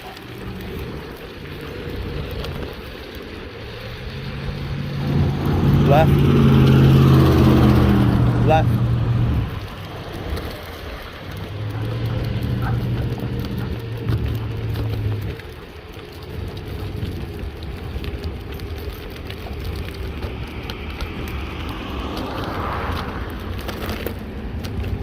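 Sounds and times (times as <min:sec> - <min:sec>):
low hum: 0:00.0 - 0:23.8
board wheels rolling on rough surface: 0:00.0 - 0:25.0.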